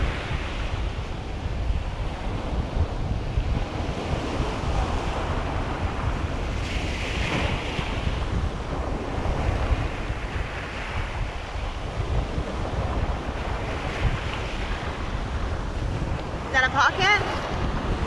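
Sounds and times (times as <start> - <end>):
surf washing on shore: 0.0 - 18.0
wind buffeting microphone: 0.0 - 18.0.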